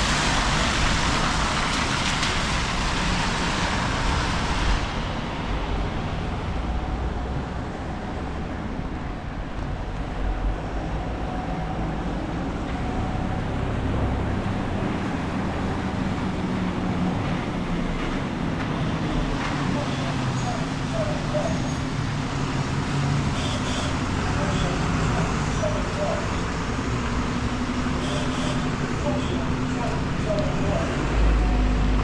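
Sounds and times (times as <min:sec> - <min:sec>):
traffic: 0:00.0 - 0:32.0.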